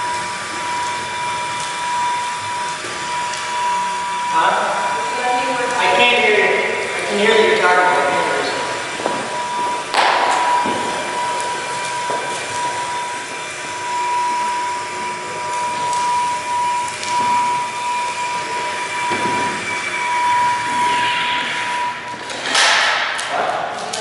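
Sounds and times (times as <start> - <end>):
motor whining: 0.0 - 22.6.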